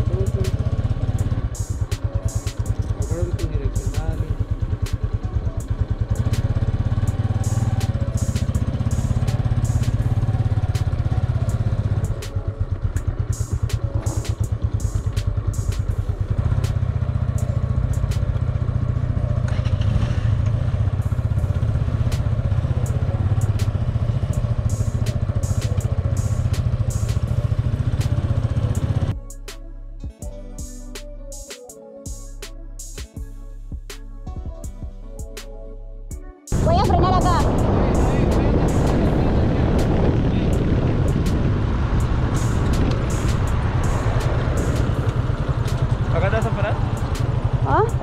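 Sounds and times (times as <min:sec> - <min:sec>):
motorcycle engine running: 0:00.0 - 0:29.2, 0:36.5 - 0:48.0.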